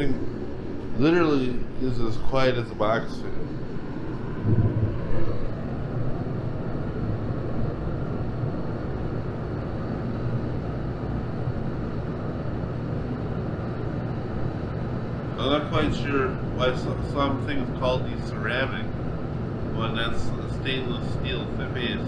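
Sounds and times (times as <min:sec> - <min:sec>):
heater humming: 0:00.0 - 0:22.0.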